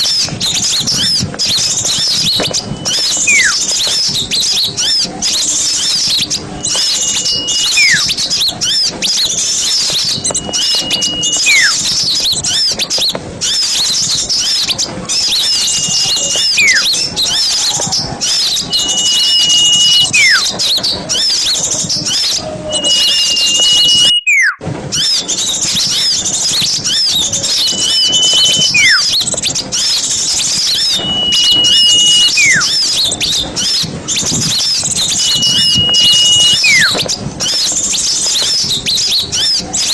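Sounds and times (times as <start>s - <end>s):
small birds chattering: 0.0s - 39.9s
whistled call sliding down: 0.0s - 39.9s.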